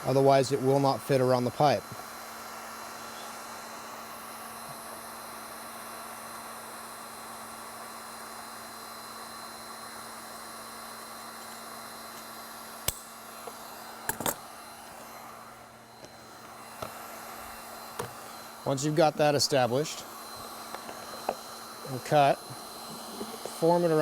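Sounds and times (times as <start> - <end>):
fan whir: 0.0 - 8.1, 9.6 - 24.0.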